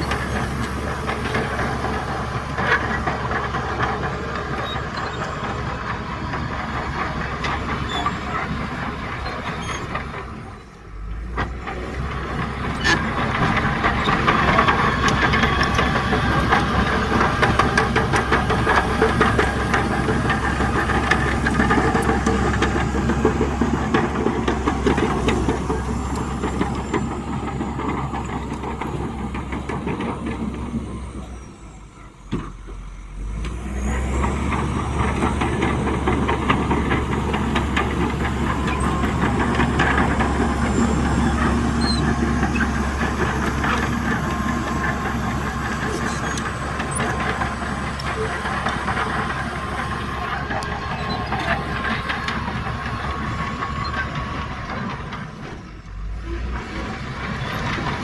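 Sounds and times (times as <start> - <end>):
heavy diesel engine rattling: 0.0 - 58.0.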